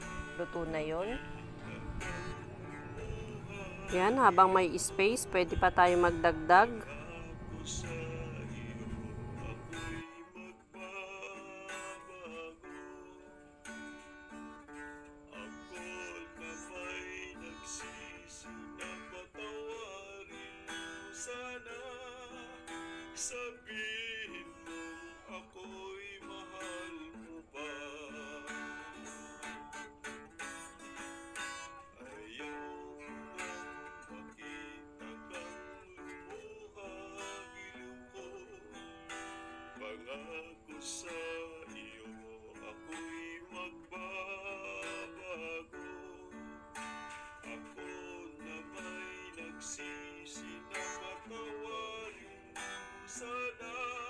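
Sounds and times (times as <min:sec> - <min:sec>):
plucked guitar music: 0:00.0 - 0:54.0.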